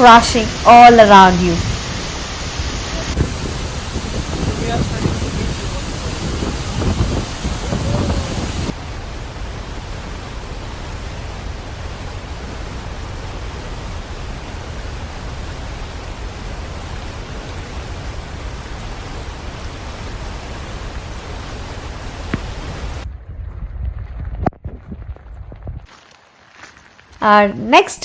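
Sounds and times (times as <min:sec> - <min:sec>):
waterfall crashing: 0:00.0 - 0:23.0.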